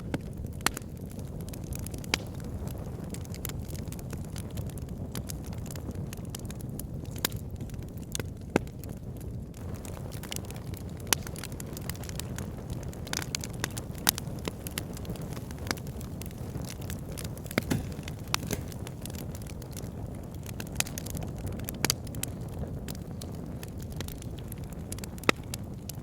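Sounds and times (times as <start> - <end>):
burning logs popping and snapping: 0.0 - 26.0
low rumble of flames: 0.0 - 26.0.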